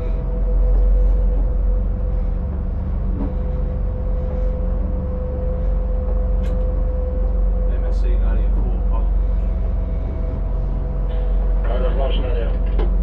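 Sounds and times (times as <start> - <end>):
boat engines running: 0.0 - 13.0.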